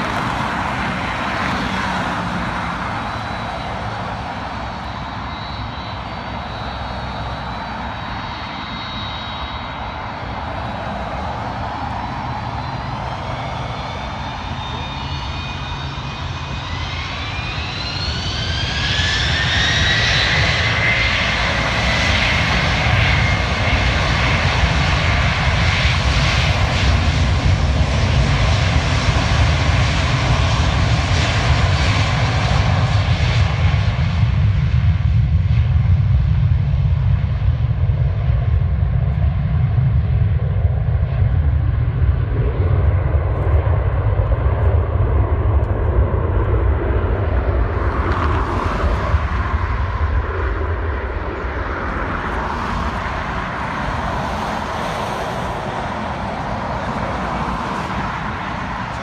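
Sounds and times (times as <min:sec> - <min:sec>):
jet engine whine: 0:00.0 - 0:59.0
jet engines roaring: 0:00.0 - 0:59.0.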